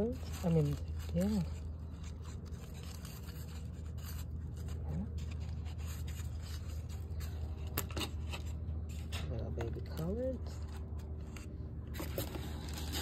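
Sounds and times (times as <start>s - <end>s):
plastic pot rustling and scraping: 0.0s - 13.0s
steady low hum: 0.0s - 13.0s.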